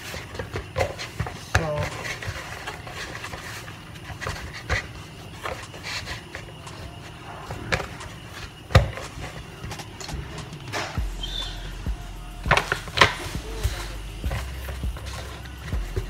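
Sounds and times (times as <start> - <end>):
dough squishing and rubbing: 0.0 - 16.0.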